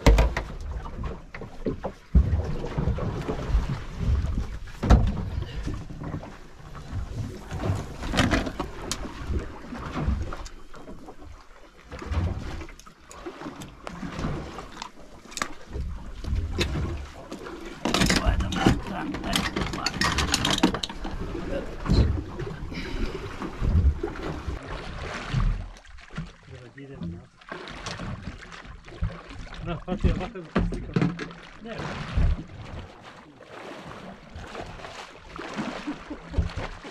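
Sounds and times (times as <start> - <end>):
knocks and thumps on boat deck: 0.0 - 11.3, 11.9 - 26.4, 27.0 - 36.9.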